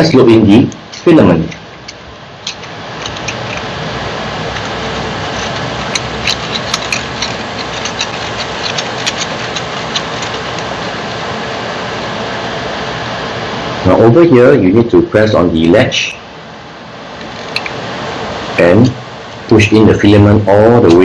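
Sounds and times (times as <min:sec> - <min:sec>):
cooling fans whirring: 0:00.0 - 0:21.0.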